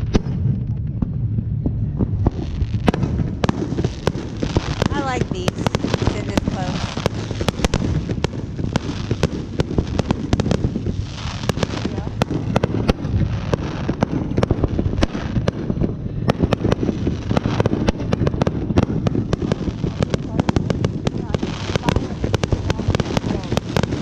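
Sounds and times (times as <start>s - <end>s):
distant explosions rumbling: 0.0s - 24.0s
fireworks bangs and pops: 0.0s - 24.0s.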